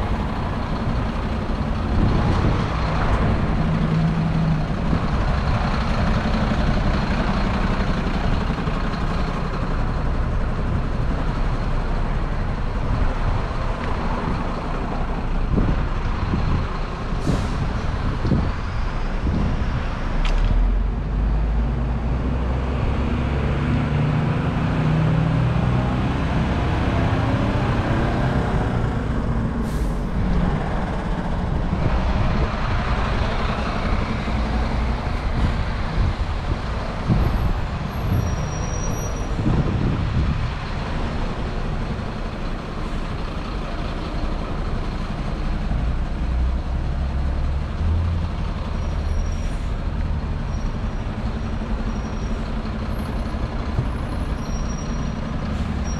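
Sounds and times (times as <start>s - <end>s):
vehicle engines passing: 0.0s - 55.9s.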